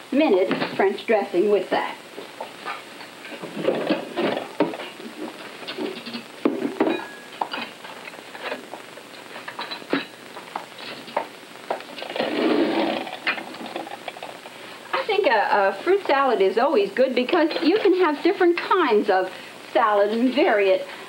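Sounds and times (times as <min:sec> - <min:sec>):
steady crackling hiss: 0:00.0 - 0:21.0.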